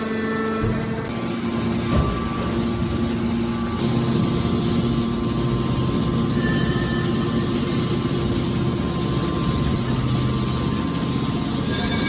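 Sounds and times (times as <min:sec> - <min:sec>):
hydraulic baler humming: 0:00.0 - 0:12.0.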